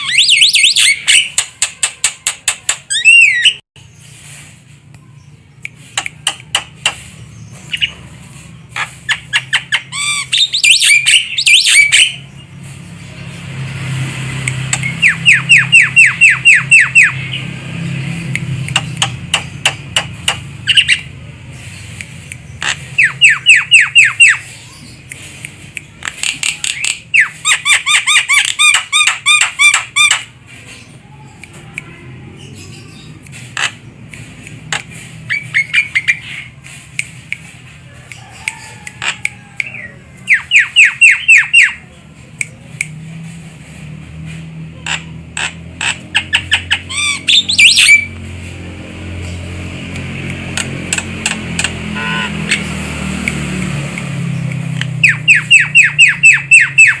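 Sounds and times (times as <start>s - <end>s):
bird squawks and chatter: 0.0s - 57.0s.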